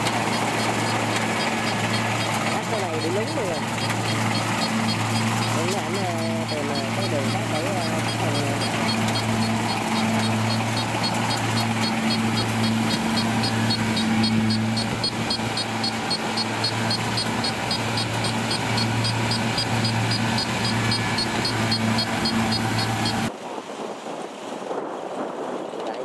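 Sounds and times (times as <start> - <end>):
combine harvester diesel engine: 0.0 - 23.3
fast even machinery ticking: 0.0 - 23.3.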